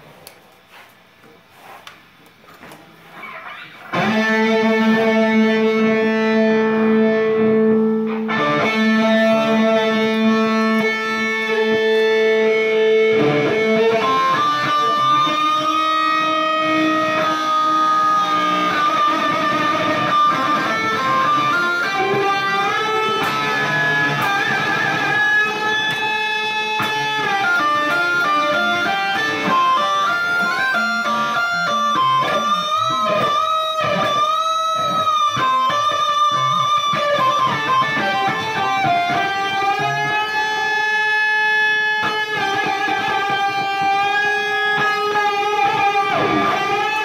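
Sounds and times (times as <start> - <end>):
electric guitar through amplifier: 0.0 - 47.0.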